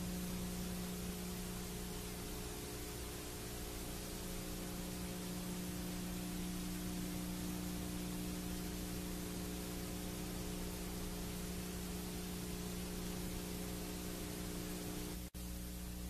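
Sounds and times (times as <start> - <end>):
low electrical hum: 0.0 - 16.0
recording hiss: 0.0 - 16.0.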